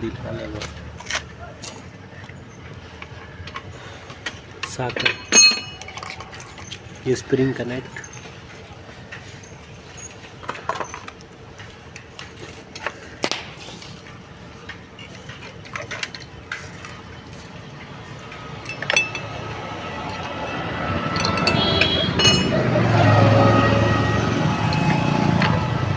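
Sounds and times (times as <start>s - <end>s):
metal tools clinking: 0.3s - 13.0s, 14.7s - 25.8s.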